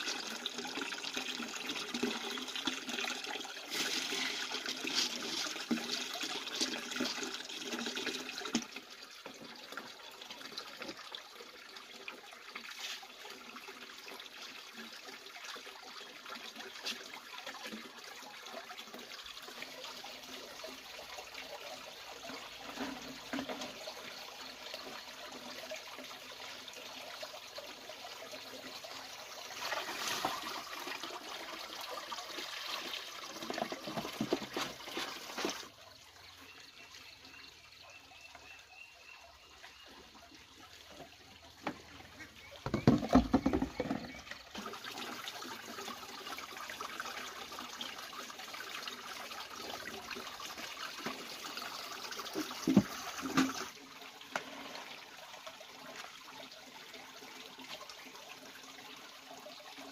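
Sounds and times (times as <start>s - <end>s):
water running and splashing: 0.0s - 59.9s.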